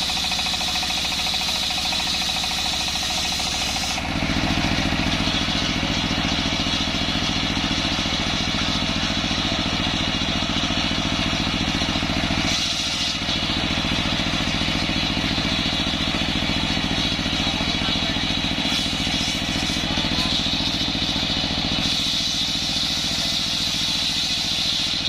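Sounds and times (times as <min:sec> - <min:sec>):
circular saw cutting log: 0:00.0 - 0:25.0
diesel engine running: 0:00.0 - 0:25.0.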